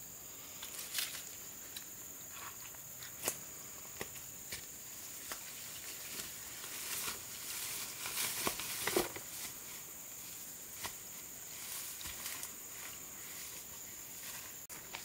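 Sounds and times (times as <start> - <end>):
steady high hiss: 0.0 - 15.0
leaves and grass rustling: 0.3 - 15.0.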